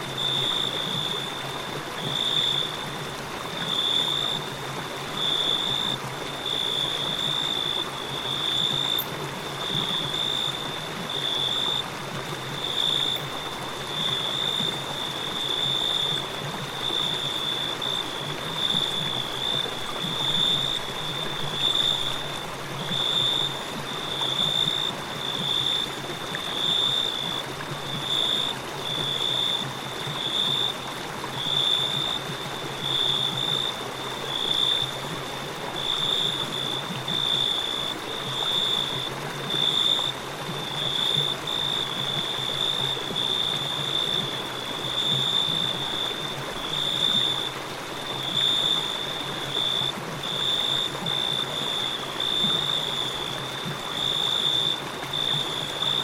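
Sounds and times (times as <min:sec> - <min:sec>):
crickets chirping: 0:00.0 - 0:56.0
river flowing: 0:00.0 - 0:56.0.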